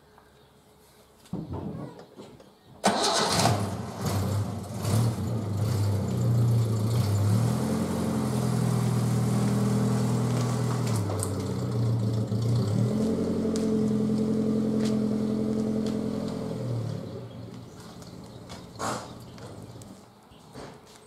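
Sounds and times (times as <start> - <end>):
car engine starting and revving: 2.8 - 19.9.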